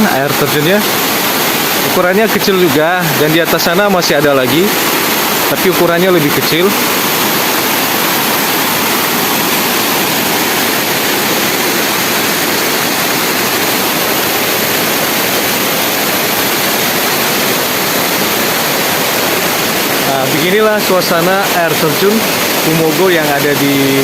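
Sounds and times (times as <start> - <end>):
small waterfall splashing: 0.0 - 24.0.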